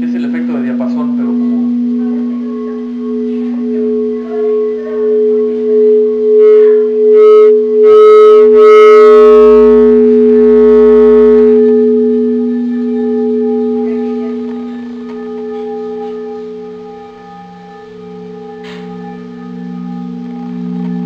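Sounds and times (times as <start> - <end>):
stone ringing bell-like: 0.0 - 21.0.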